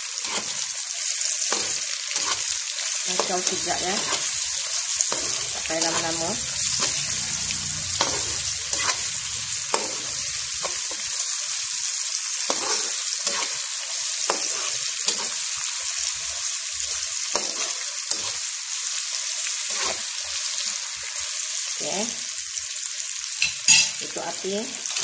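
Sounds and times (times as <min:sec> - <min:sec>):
spatula scraping a wok: 0:00.0 - 0:18.7, 0:19.3 - 0:21.4
onions sizzling in hot oil: 0:00.0 - 0:25.0.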